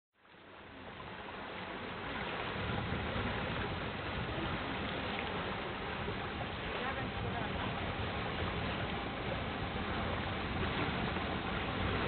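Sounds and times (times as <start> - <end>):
water noise: 0.2 - 12.0
wind rumbling on microphone: 0.6 - 12.0.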